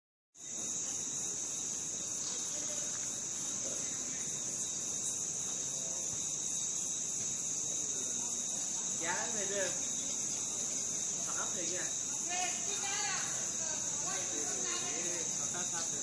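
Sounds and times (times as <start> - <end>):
crickets trilling: 0.4 - 16.0.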